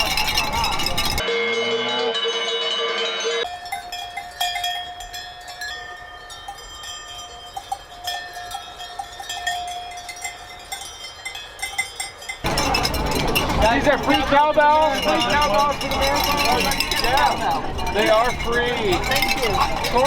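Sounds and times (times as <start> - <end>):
cowbells clanking: 0.0 - 20.0
steady ringing tones: 0.0 - 20.0.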